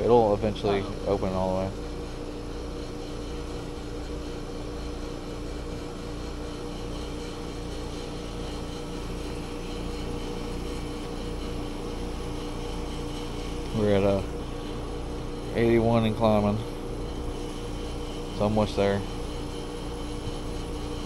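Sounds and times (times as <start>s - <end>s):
heat pump compressor humming: 0.0s - 21.0s.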